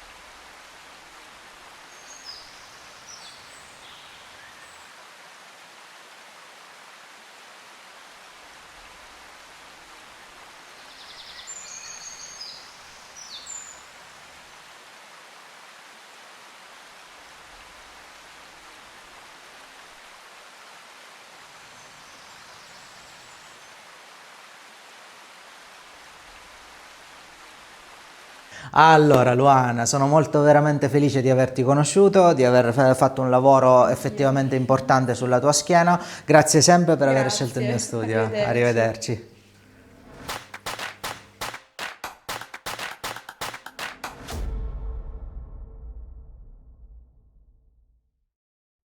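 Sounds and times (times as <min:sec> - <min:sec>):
faint background hiss: 0:00.0 - 0:44.2.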